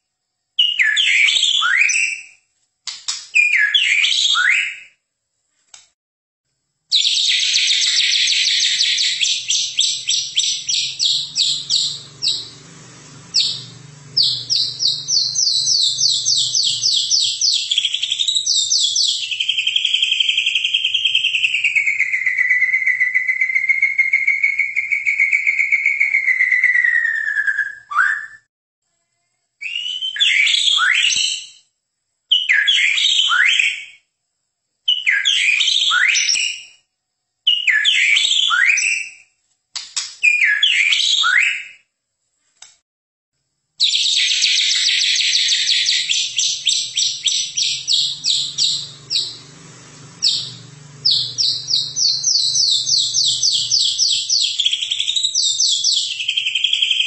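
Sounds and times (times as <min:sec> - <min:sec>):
bird singing: 0:00.6 - 0:02.4, 0:03.4 - 0:05.0, 0:06.9 - 0:28.5, 0:29.6 - 0:31.6, 0:32.3 - 0:34.0, 0:34.9 - 0:36.8, 0:37.5 - 0:39.2, 0:40.2 - 0:41.8, 0:43.8 - 0:57.0.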